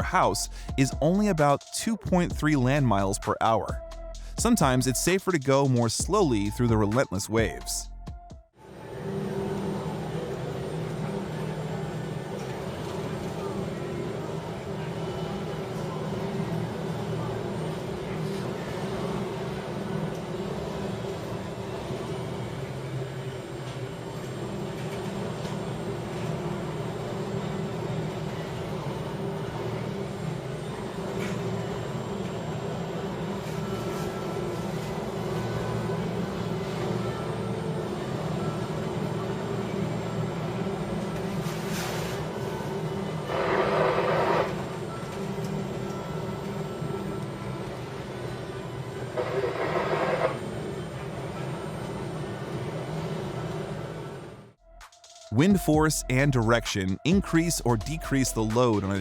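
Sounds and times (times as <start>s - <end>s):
ship engine drone: 8.7s - 59.0s.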